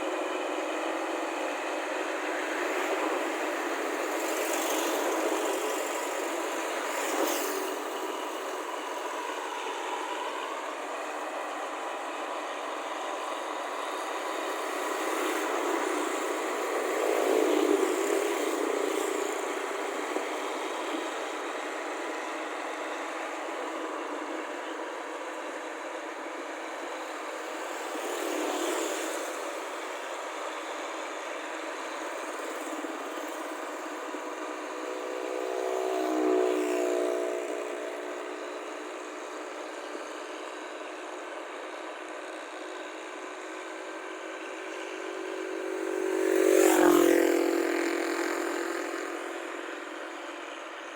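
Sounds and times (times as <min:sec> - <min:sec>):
motor vehicle engines: 0:00.0 - 0:50.9.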